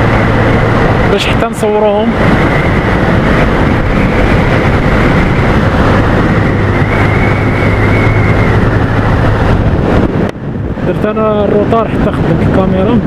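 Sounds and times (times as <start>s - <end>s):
motorcycle engine running: 0.0s - 12.6s
wind rushing past microphone: 0.0s - 13.0s.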